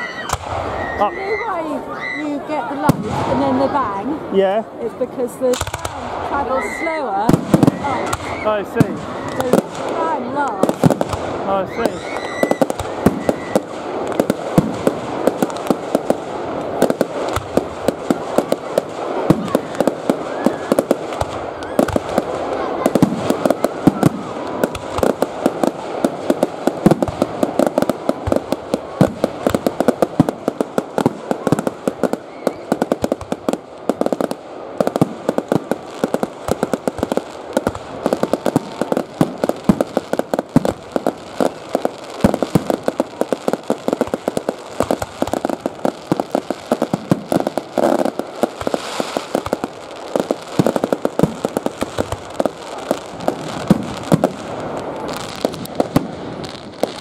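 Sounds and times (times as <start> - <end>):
firework bangs: 0.0 - 57.0
firework crackling: 0.0 - 57.0.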